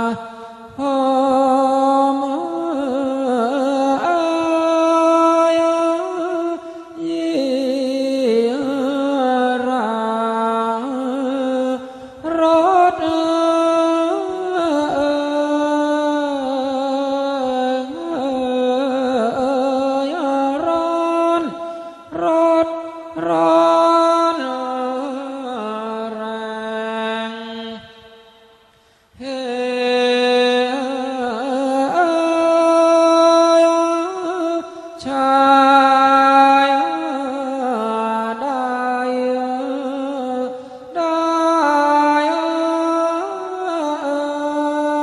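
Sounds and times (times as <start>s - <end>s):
person chanting long held notes: 0.0s - 28.5s, 29.2s - 45.0s.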